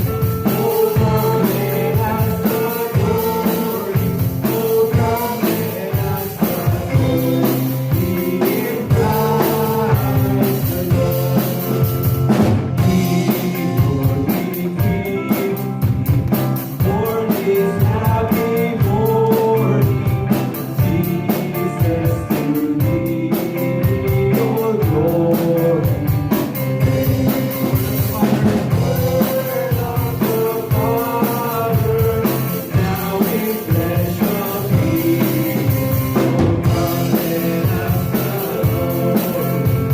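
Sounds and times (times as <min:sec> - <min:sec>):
drum kit: 0:00.0 - 0:39.9
guitar: 0:00.0 - 0:39.9
voices singing a hymn: 0:00.0 - 0:39.9.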